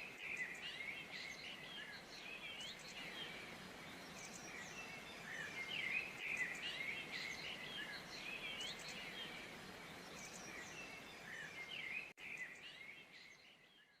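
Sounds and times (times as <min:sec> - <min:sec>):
background hiss: 0:00.0 - 0:13.8
small birds chirping: 0:00.0 - 0:14.0.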